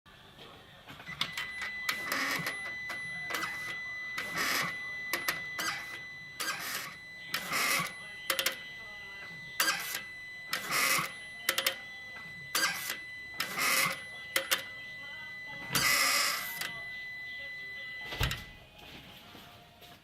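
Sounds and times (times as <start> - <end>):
steady high tone: 1.0 - 19.1.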